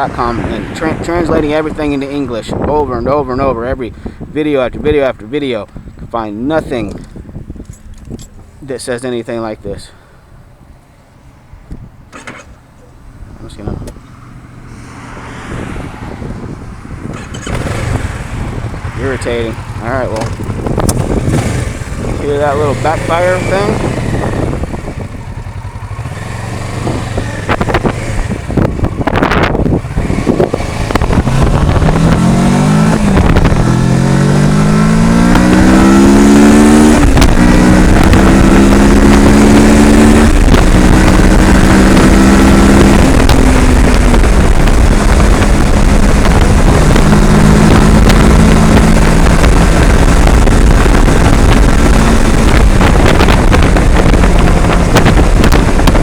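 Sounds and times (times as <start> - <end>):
motorcycle engine accelerating: 0.0 - 5.0, 10.4 - 56.0
wind noise on microphone: 0.0 - 10.8, 11.4 - 56.0.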